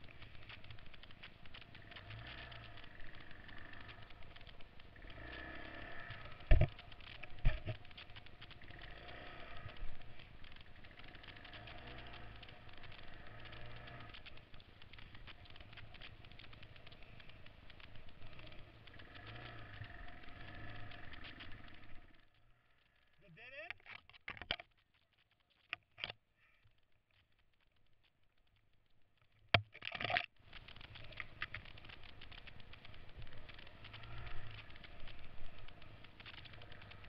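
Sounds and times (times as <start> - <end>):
motorbike engine at low revs: 0.0 - 23.2, 30.4 - 37.0
bike rattling over rough ground: 0.0 - 37.0.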